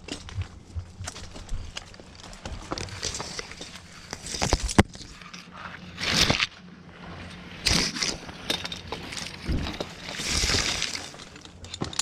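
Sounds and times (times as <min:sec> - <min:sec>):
branches and foliage rustling: 0:00.0 - 0:12.0.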